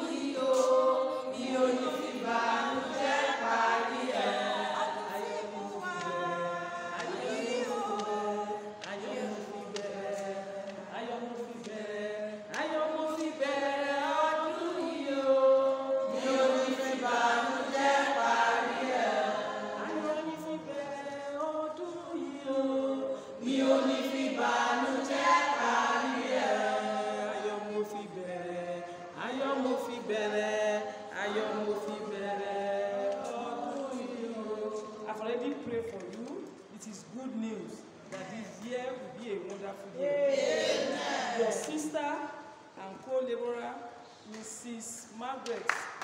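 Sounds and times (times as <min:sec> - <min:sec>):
women singing a hymn: 0:00.0 - 0:35.4, 0:40.2 - 0:42.2.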